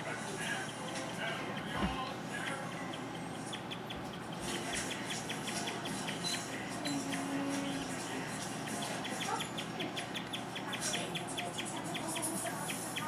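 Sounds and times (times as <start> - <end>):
guinea pig chirping: 0.0 - 13.0.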